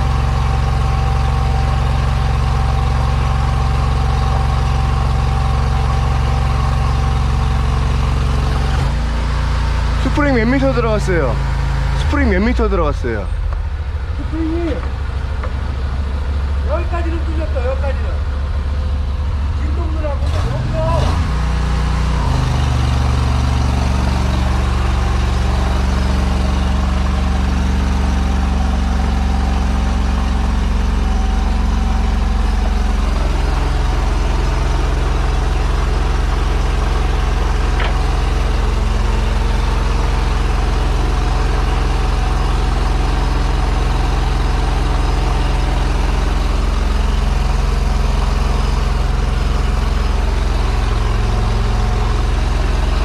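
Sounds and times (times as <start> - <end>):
drain jetter engine running: 0.0 - 53.0.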